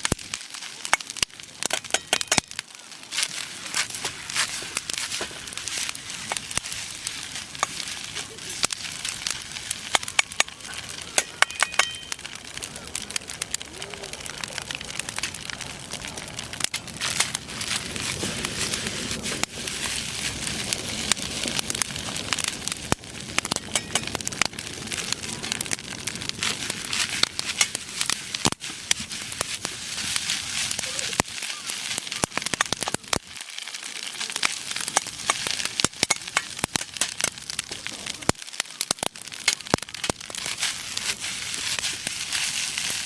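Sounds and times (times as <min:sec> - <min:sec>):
campfire popping and crackling: 0:00.0 - 0:43.0
food sizzling: 0:00.0 - 0:43.0.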